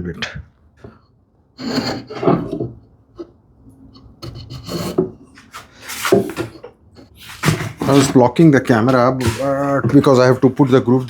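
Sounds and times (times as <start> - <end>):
wood scraping against wood: 1.6 - 11.0.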